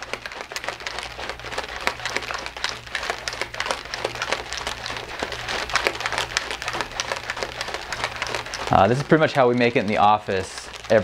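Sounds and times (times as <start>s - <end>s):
liquid sloshing: 0.0s - 11.0s
whisk ball rattling in shaker: 0.0s - 11.0s.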